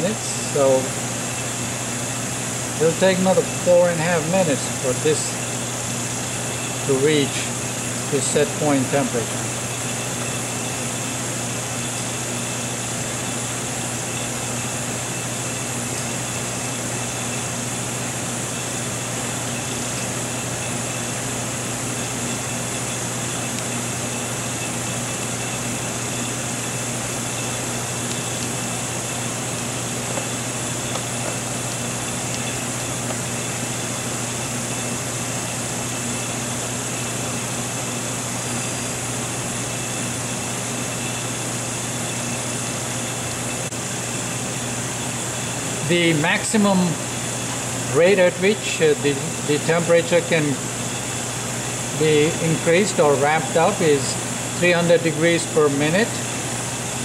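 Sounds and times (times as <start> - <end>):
fan-like hiss: 0.0 - 57.0
oven electrical hum: 0.0 - 57.0.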